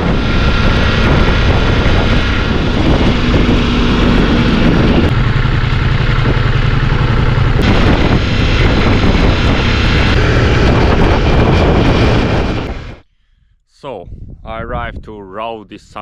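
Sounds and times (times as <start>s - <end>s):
motorcycle engine running: 0.0s - 13.0s
wind rushing: 0.0s - 13.0s.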